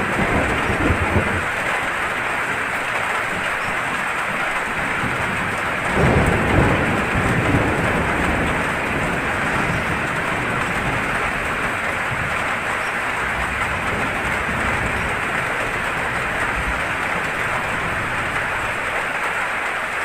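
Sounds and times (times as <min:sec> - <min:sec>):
thunder rumbling: 0:00.0 - 0:19.2
heavy rain: 0:00.0 - 0:20.0.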